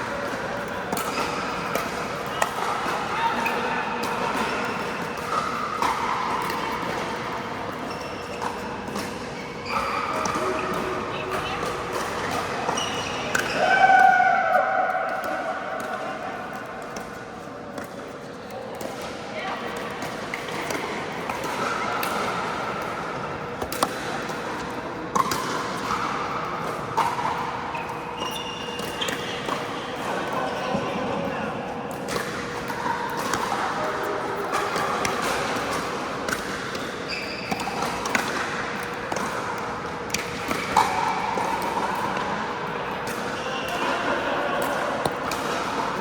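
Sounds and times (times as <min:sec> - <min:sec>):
indoor hall background noise: 0:00.0 - 0:46.0.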